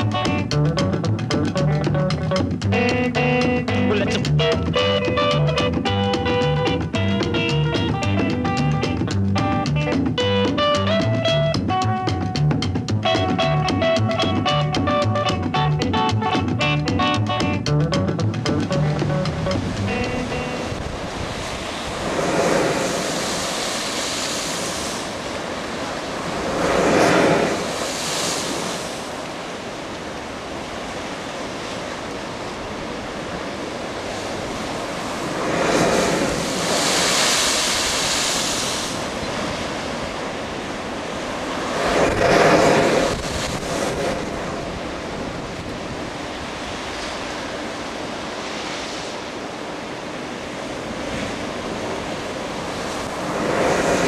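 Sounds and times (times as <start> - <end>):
ocean surf on rocks: 0.0 - 17.5, 18.1 - 54.0
wind buffeting microphone: 0.0 - 49.4.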